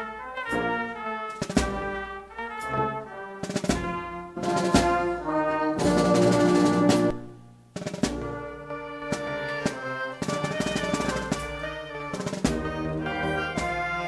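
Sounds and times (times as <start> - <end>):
brass band playing: 0.0 - 14.0
drum strikes: 0.5 - 14.0.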